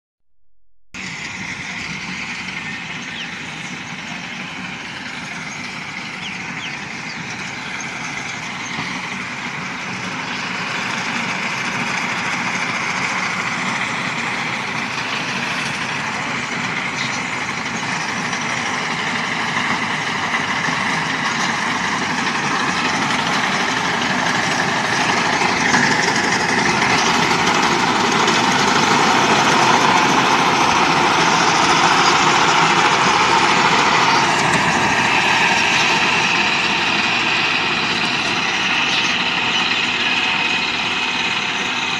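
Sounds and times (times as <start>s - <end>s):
windrower engine and cutter running: 1.0s - 41.9s.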